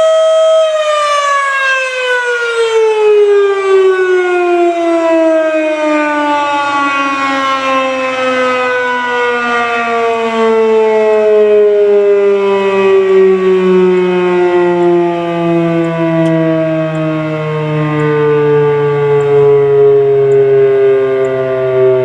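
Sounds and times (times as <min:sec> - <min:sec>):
fire siren winding down: 0:00.0 - 0:22.0.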